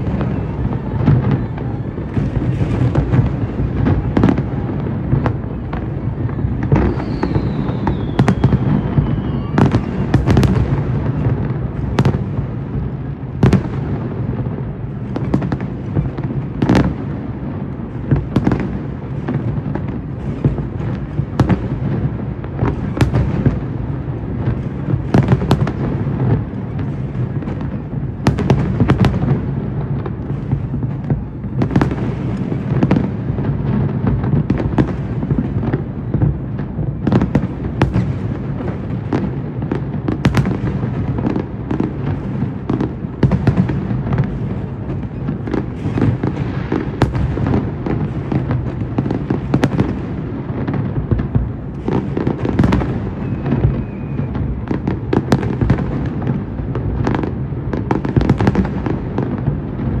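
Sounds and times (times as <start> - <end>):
fireworks bursting: 0.0 - 60.0.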